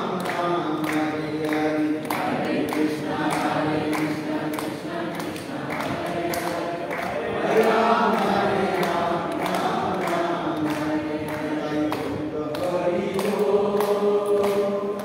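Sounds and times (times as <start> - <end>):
congregation singing a chant: 0.0 - 15.0.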